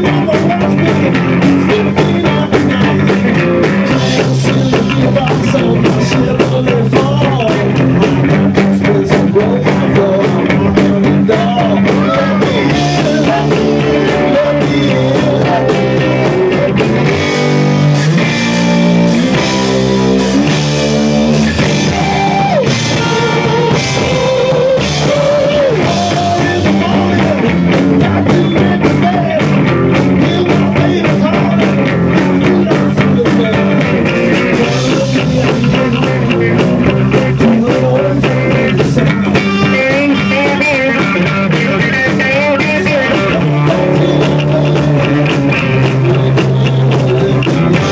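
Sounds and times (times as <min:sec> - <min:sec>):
person singing: 0:00.0 - 0:18.4, 0:21.4 - 0:47.9
drum kit: 0:00.0 - 0:47.9
electric guitar: 0:00.0 - 0:47.9.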